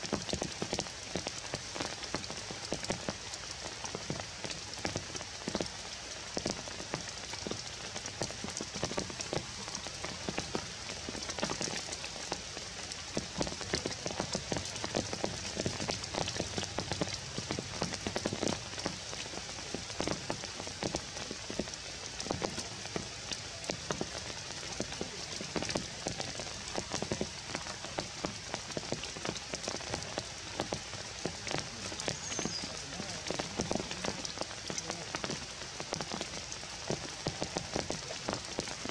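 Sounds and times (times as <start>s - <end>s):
rain hissing on foliage: 0.0s - 38.9s.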